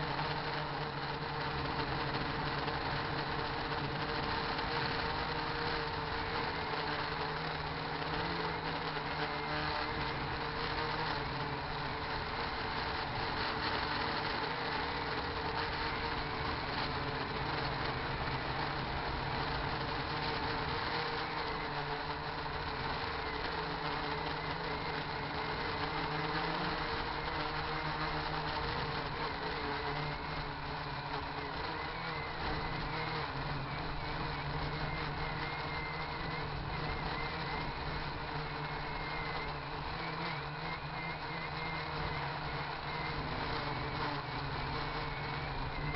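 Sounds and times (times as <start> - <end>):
quadcopter propellers buzzing: 0.0 - 45.9.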